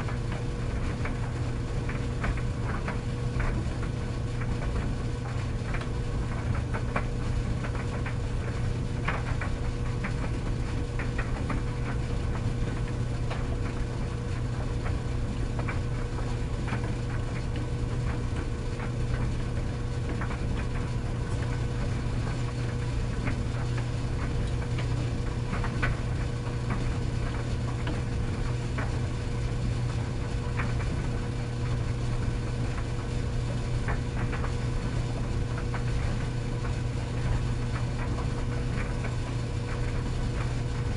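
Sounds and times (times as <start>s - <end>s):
tumble dryer humming: 0.0s - 40.9s.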